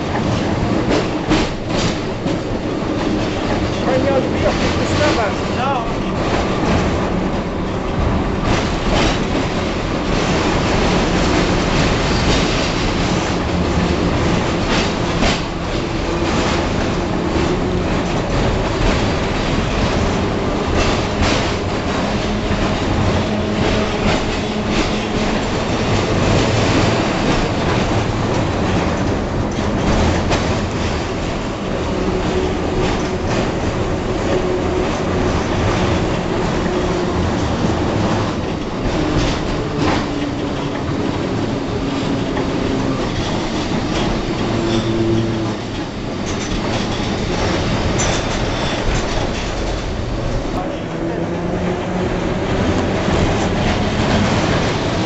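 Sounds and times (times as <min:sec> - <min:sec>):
wheels clicking over rail joints: 0:00.0 - 0:51.0
tram rolling rumble: 0:00.0 - 0:55.0.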